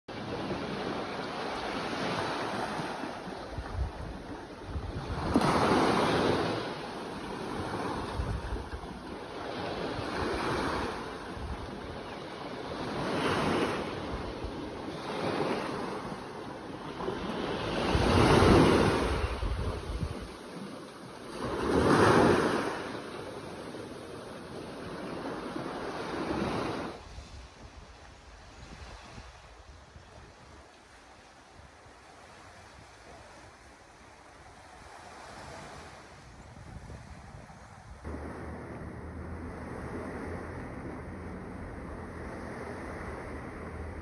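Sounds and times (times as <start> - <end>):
waves washing onto beach: 0.1 - 44.0.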